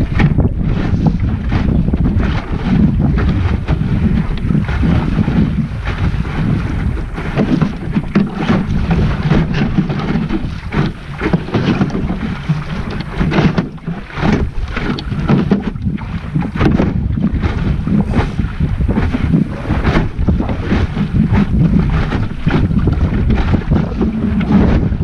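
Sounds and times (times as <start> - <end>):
water slapping against hull: 0.0 - 25.0
wind buffeting microphone: 0.0 - 25.0.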